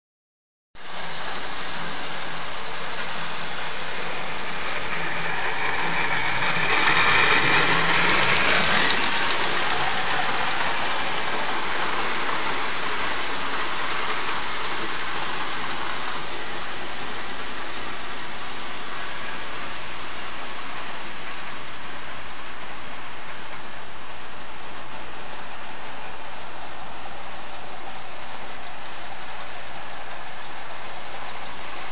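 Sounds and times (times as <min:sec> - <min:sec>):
toy train rumbling on metal rails: 0:01.7 - 0:31.9.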